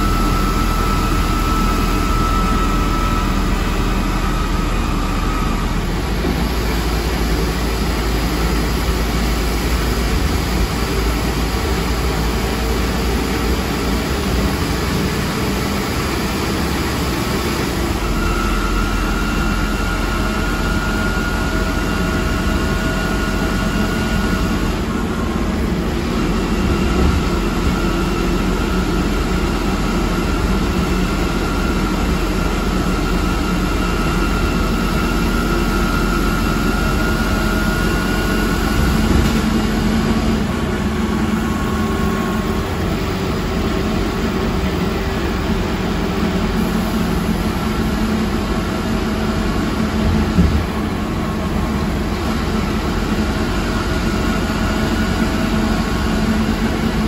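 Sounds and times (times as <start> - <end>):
deep engine drone: 0.0 - 57.0.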